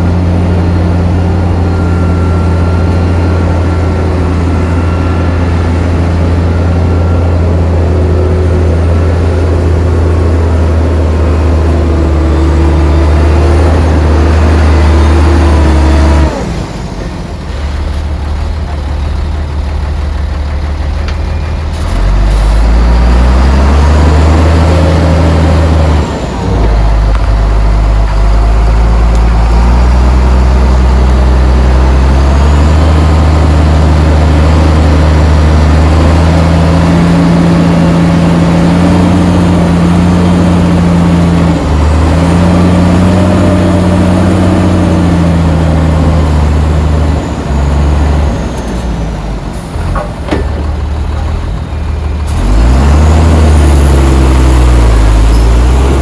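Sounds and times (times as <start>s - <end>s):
heavy diesel engine revving: 0.0s - 56.0s.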